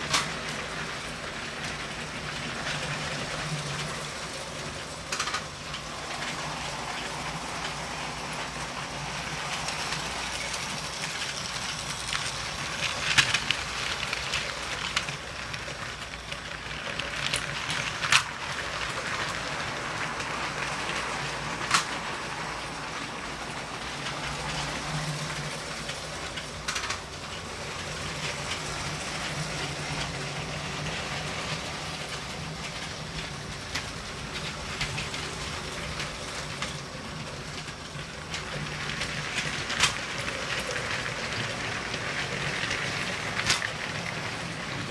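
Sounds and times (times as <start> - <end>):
toy train motor whirring: 0.0 - 44.9
wheels clattering on track: 0.0 - 44.9.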